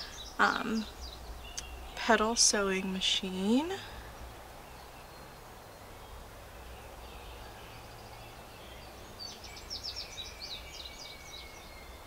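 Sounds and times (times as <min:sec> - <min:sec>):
faint bird chirps: 0:00.0 - 0:02.1, 0:03.8 - 0:12.0.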